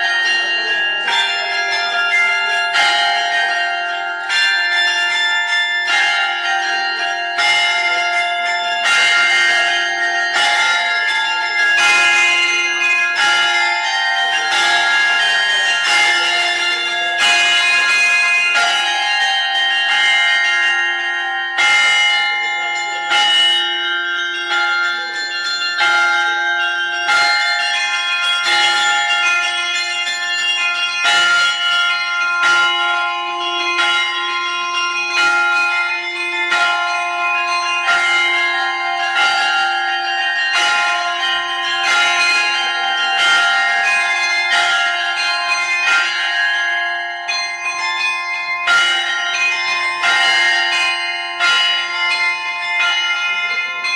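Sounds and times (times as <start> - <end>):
church bells ringing: 0.0 - 53.9.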